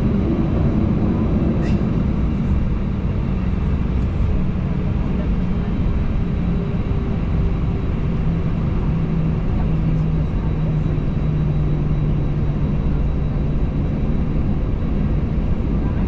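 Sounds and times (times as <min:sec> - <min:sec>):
aircraft engines rumbling: 0:00.0 - 0:16.0.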